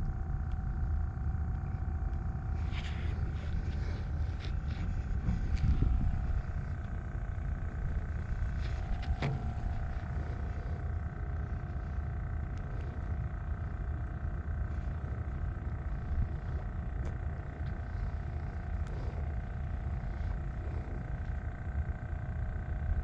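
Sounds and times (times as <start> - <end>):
faint constant hum: 0.0 - 23.0
low engine rumble: 0.0 - 23.0.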